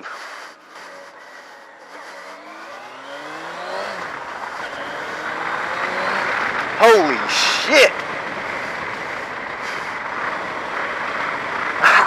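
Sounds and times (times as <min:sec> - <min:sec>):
motorcycle engine accelerating: 0:00.6 - 0:12.0.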